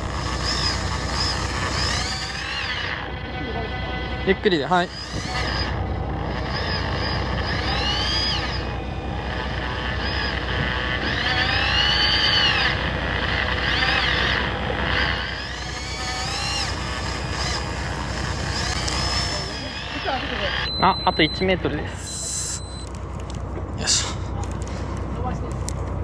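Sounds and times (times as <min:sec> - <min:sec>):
electric fishing reel motor whine: 0:00.0 - 0:23.0
boat engine humming: 0:00.0 - 0:26.0.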